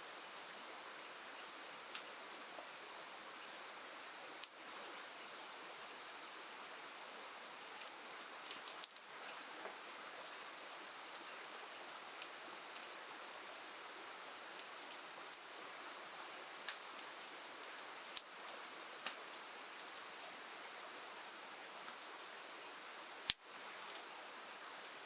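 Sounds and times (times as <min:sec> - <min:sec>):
rain falling: 0:04.3 - 0:25.0.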